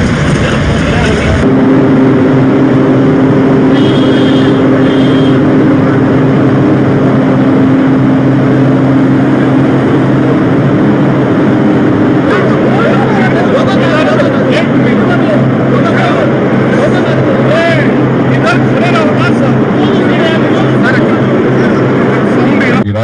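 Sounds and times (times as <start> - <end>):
loud machine hum: 0.0 - 23.0.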